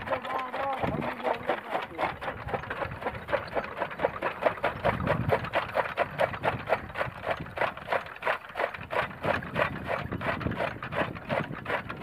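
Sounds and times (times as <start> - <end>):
chaff cutter chopping fodder: 0.0 - 12.0
fast regular clacking: 0.0 - 12.0.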